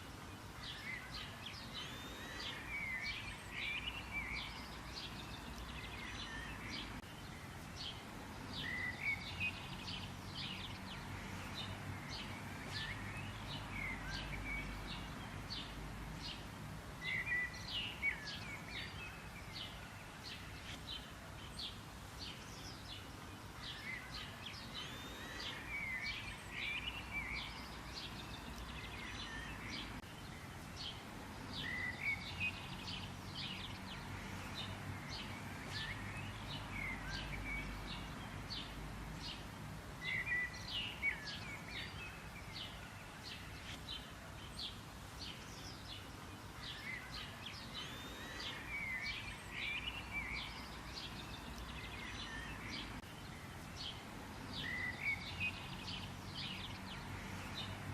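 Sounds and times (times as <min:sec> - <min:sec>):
birds chirping and twittering: 0:00.0 - 0:57.9
faint background hiss: 0:00.0 - 0:57.9.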